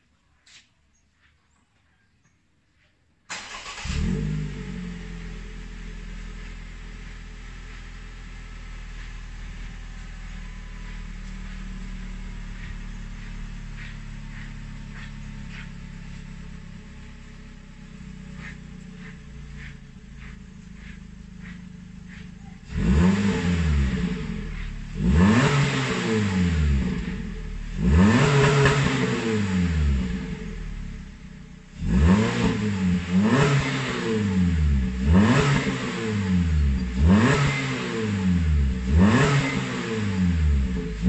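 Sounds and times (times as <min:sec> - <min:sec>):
car engine starting and idling: 0:03.3 - 0:41.0.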